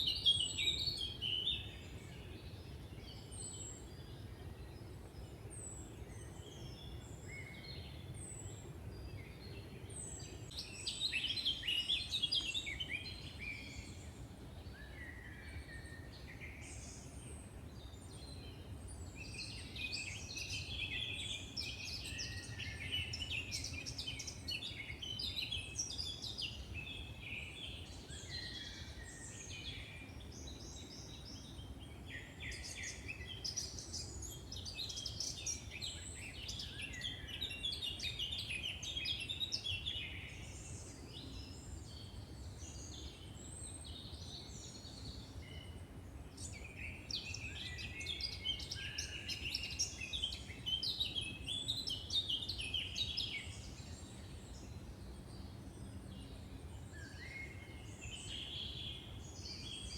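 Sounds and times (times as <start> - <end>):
songbirds trilling and chirping: 0.0 - 59.9
low steady background rush: 1.0 - 59.9.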